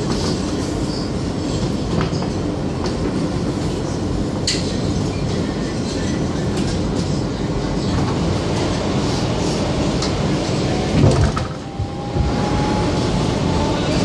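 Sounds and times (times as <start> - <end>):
subway wheels rumbling on rail: 0.0 - 14.0.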